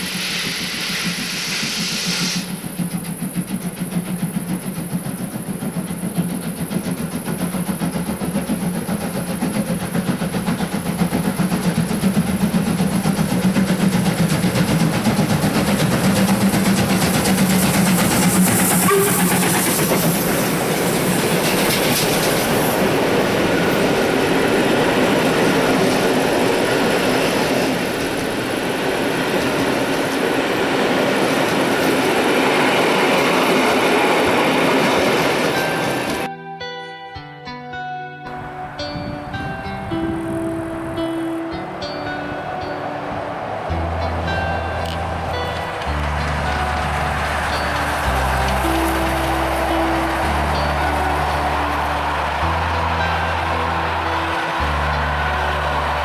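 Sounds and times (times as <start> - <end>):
steam locomotive passing: 0.0 - 36.3, 38.4 - 56.0
wheels clattering on rails: 0.0 - 36.3, 40.2 - 56.0.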